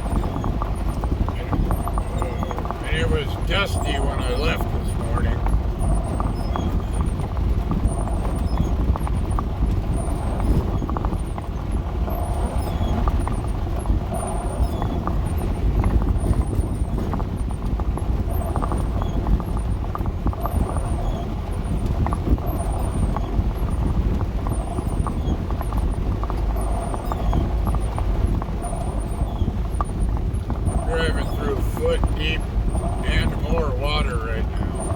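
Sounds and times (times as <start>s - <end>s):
body and suspension rattling: 0.0s - 34.9s
van engine and tyres rumbling: 0.0s - 34.9s.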